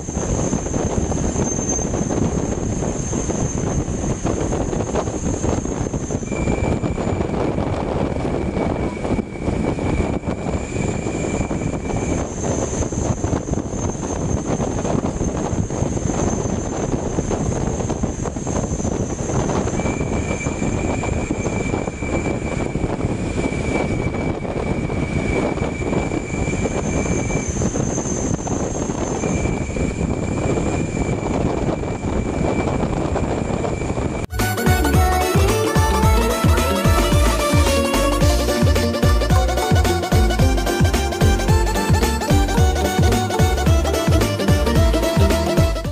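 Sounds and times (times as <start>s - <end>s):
bus wind and road noise: 0.0s - 45.9s
thin high whine: 0.0s - 45.9s.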